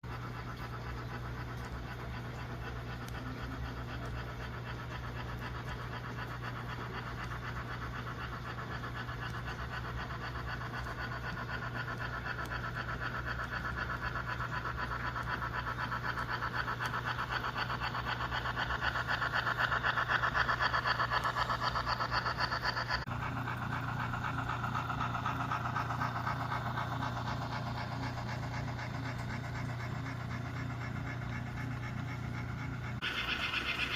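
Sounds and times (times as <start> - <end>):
model steam locomotive chuffing: 0.0 - 33.9
steady low hum: 0.0 - 33.9.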